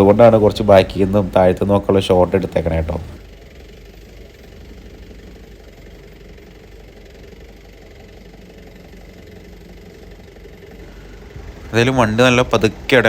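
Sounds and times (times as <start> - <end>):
engine knocking at low revs: 0.0 - 13.0.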